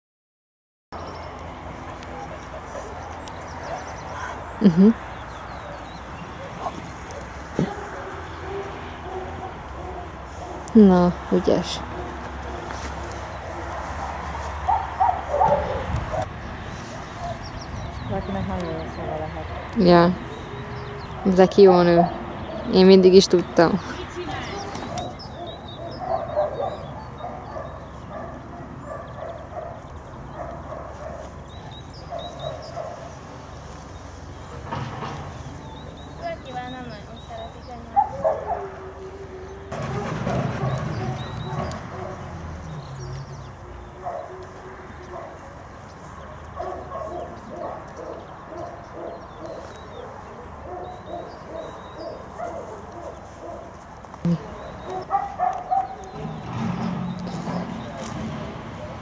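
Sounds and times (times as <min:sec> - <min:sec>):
dogs barking: 0:01.0 - 0:18.1, 0:19.2 - 0:59.0.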